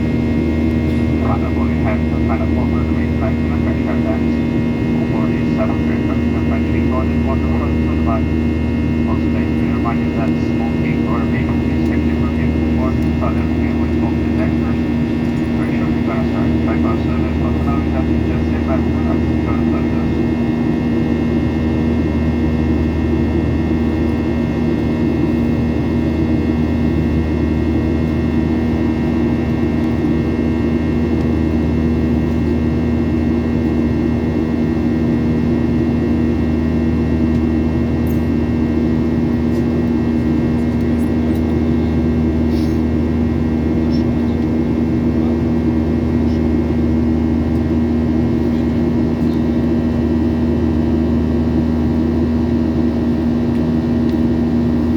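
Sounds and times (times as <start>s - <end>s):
airplane cabin engine drone: 0.0s - 54.9s.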